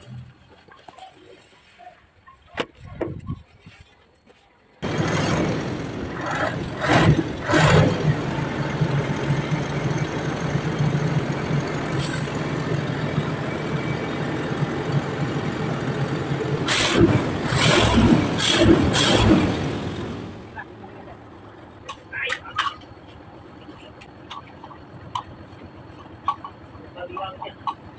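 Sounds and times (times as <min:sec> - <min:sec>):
diesel truck engine idling: 0:04.8 - 0:27.9.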